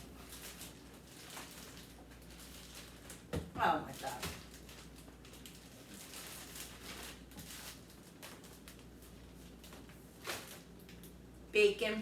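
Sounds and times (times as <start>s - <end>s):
plastic packages rustling: 0.0s - 11.2s.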